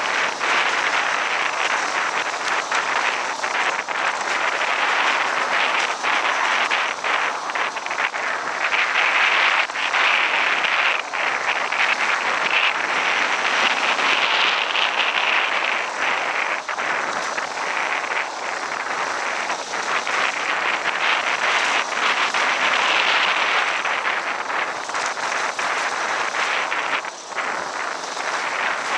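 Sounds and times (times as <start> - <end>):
wind rushing over microphone: 0.0 - 28.9.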